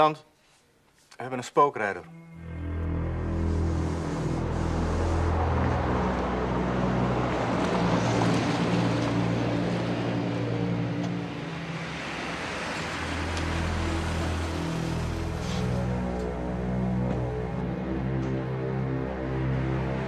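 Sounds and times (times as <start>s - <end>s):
low music drone: 2.0s - 20.0s
road noise: 2.3s - 20.0s.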